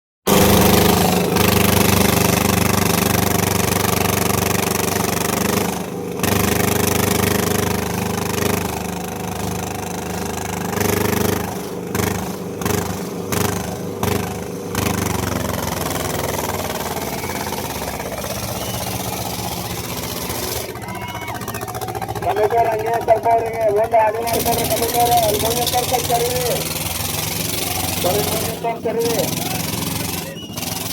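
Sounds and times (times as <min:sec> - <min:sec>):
tractor diesel engine revving: 0:00.2 - 0:30.9.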